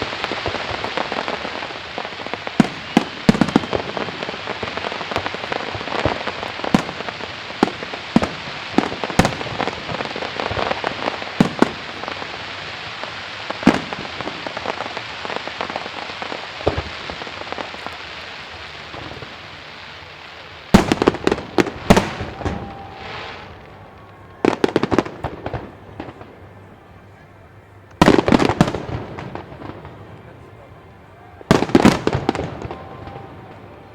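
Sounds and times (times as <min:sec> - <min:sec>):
fireworks crackling: 0:00.0 - 0:33.9.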